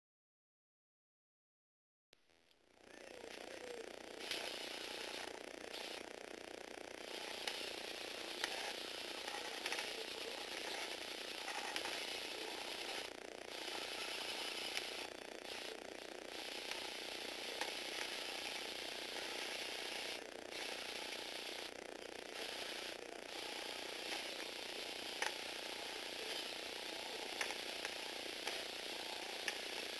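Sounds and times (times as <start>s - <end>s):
electric motor whirring: 2.6s - 29.9s.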